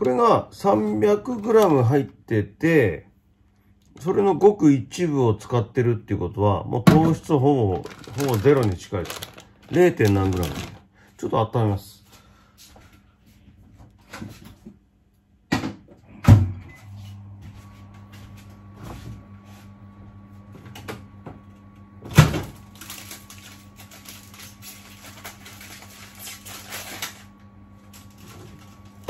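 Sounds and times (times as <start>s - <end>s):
microwave humming: 0.0s - 3.0s, 3.7s - 11.1s, 15.4s - 29.0s.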